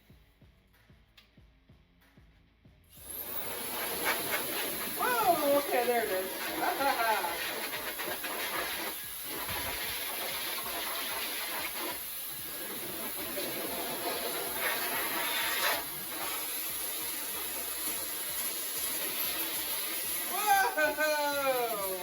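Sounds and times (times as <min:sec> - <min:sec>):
electric air duster hissing: 0:02.9 - 0:22.0.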